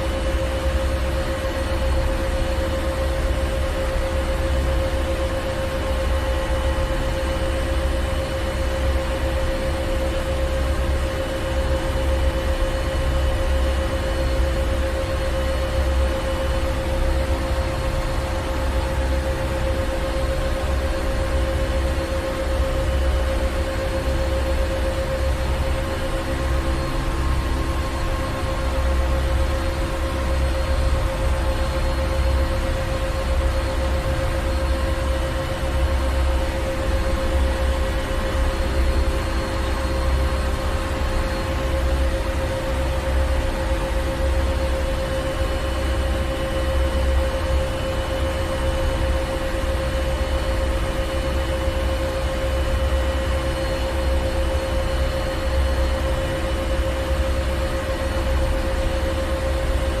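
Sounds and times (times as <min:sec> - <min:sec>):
engine room machinery drone: 0:00.0 - 1:00.0.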